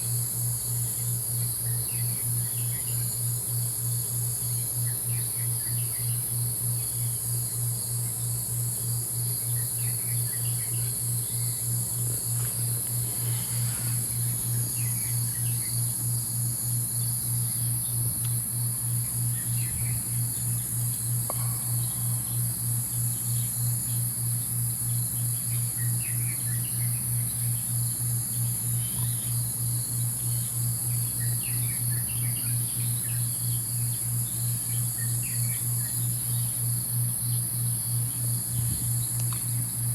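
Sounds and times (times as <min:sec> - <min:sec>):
insect chorus: 0:00.0 - 0:39.9
low pulsing hum: 0:00.0 - 0:39.9.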